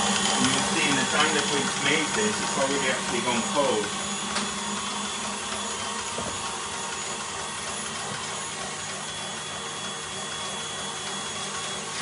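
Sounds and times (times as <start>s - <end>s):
stand mixer whirring: 0.0s - 12.0s.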